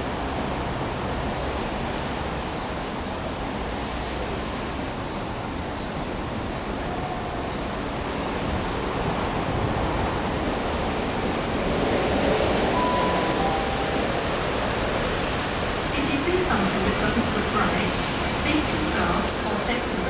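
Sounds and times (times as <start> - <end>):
train rushing past: 0.0 - 20.0.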